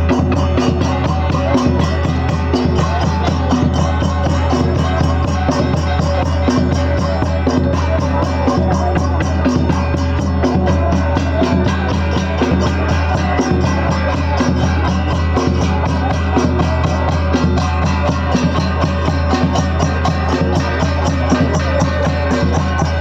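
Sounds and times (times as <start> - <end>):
music with fast drum beat: 0.0 - 23.0.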